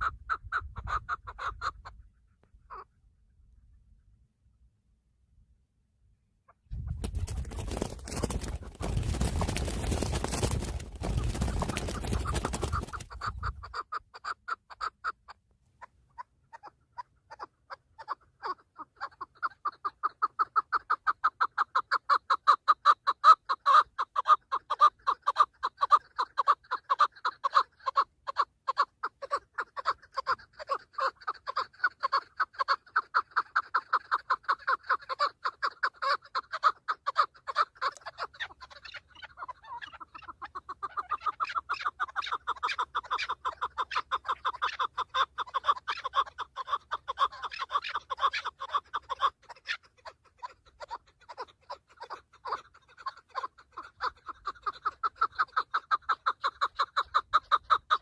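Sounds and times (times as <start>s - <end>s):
partridge clucking calls: 0.0s - 3.0s, 6.5s - 58.0s.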